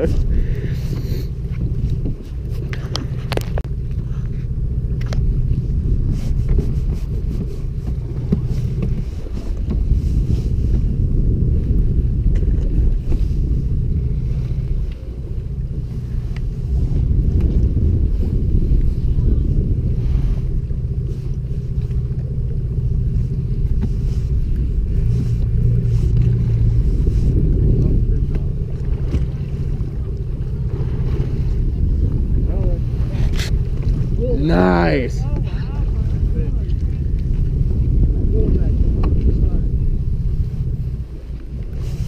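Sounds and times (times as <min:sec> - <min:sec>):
boat noise: 0:00.0 - 0:42.0
wind buffeting microphone: 0:00.0 - 0:42.0.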